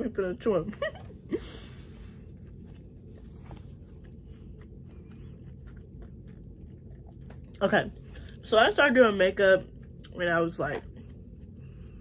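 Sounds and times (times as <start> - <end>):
steady low hum: 0.0 - 12.0
person chewing food: 1.0 - 12.0.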